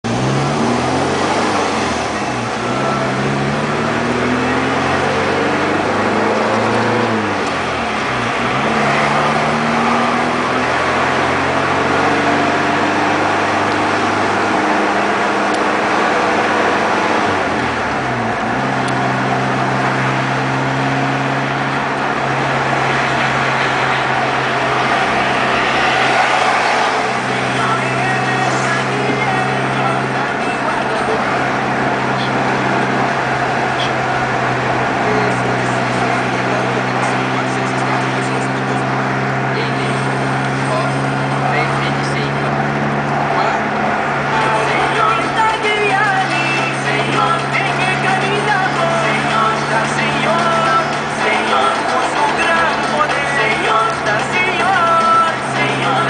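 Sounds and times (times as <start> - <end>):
car engine accelerating: 0.0 - 56.0
road and tyre noise: 0.0 - 56.0.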